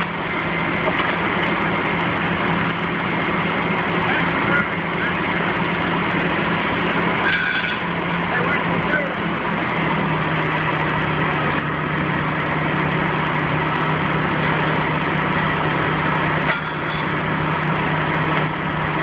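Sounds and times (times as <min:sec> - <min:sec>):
crane engine running: 0:00.0 - 0:19.0.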